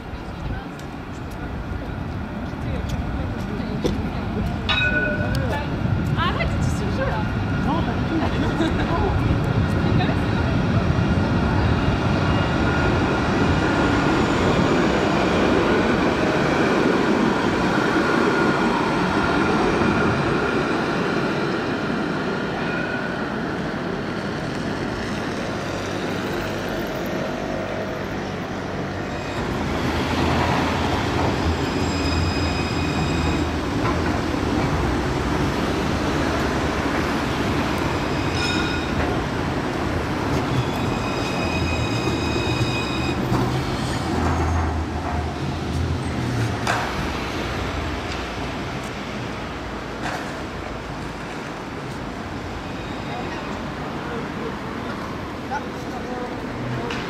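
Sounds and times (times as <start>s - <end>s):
tram rolling on track: 0.0s - 57.0s
tram wheels squealing: 4.6s - 47.8s, 52.0s - 56.9s.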